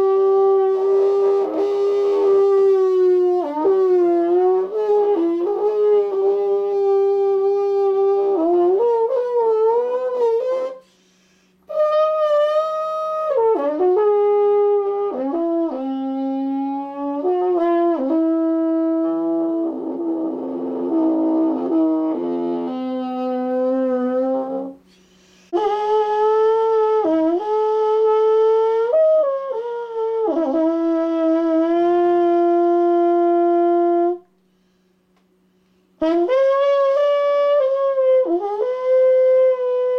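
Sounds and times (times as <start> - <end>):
trombone solo with sliding notes: 0.0 - 10.9, 11.7 - 24.8, 25.5 - 34.2, 36.0 - 39.9.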